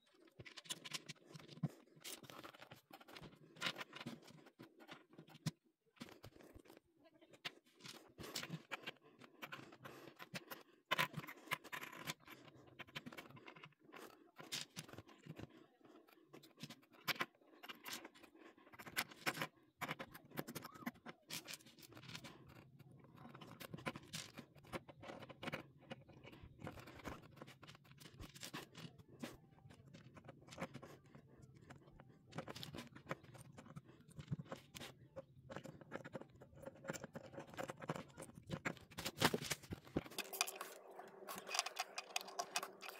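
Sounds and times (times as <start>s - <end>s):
plastic bricks clicking and scraping: 0.0s - 42.9s.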